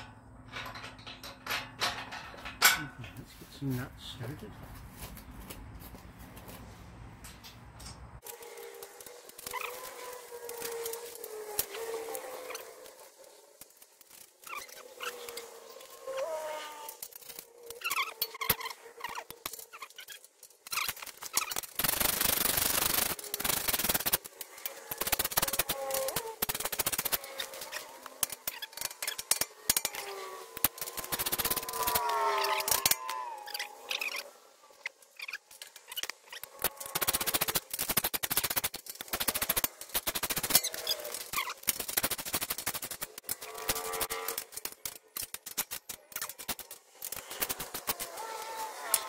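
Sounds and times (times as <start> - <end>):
rubbing and scraping: 8.2 - 49.0.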